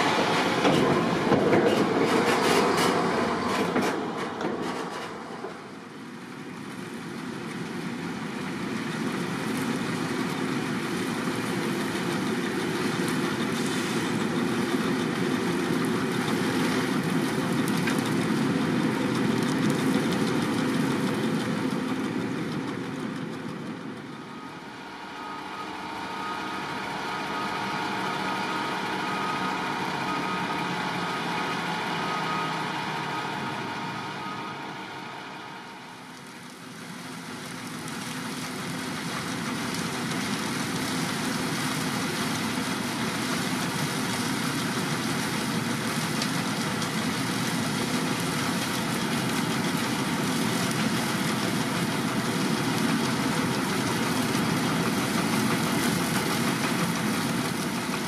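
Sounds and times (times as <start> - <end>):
harvester engine and machinery: 0.0 - 58.0
tractor engine whining: 9.1 - 58.0.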